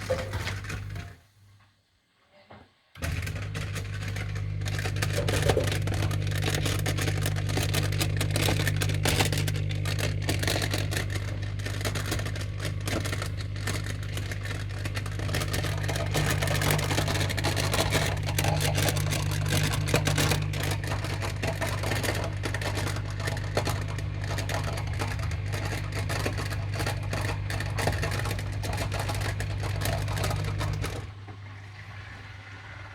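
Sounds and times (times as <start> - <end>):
dishwasher rattling: 0.0 - 1.2, 3.0 - 31.2
low motor hum: 3.0 - 32.9.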